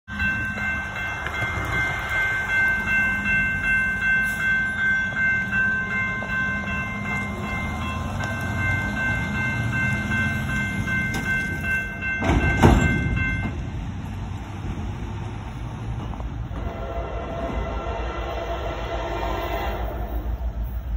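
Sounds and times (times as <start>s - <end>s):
railroad crossing bell ringing: 0.1s - 20.9s.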